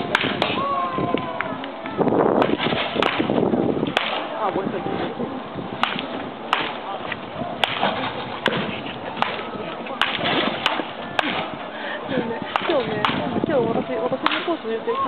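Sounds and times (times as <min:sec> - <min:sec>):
wooden bats hitting baseballs: 0:00.0 - 0:04.5, 0:05.8 - 0:11.7, 0:12.4 - 0:14.7.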